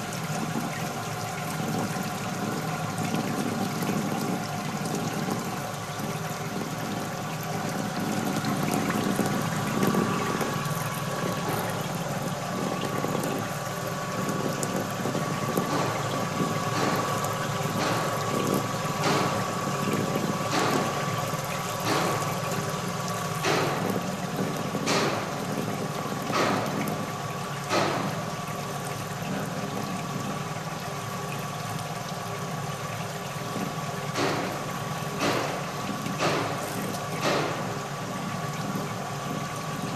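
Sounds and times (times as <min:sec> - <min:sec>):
vibratory screen machine humming: 0:00.0 - 0:39.9.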